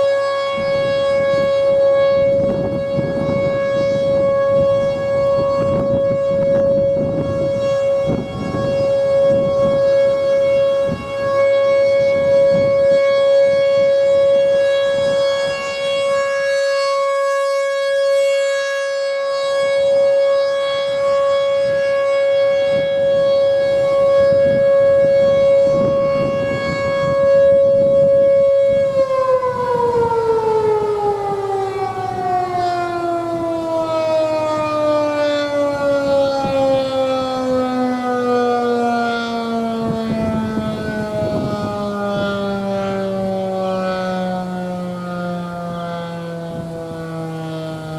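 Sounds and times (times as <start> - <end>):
warning siren steady tone: 0.0 - 47.9.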